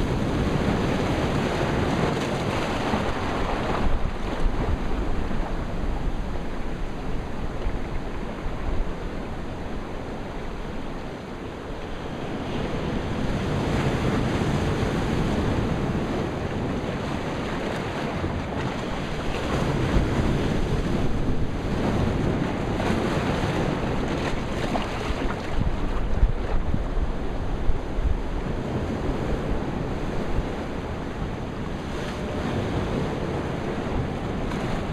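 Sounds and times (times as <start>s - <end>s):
ocean surf on rocks: 0.0s - 34.9s
wind buffeting microphone: 0.0s - 34.9s.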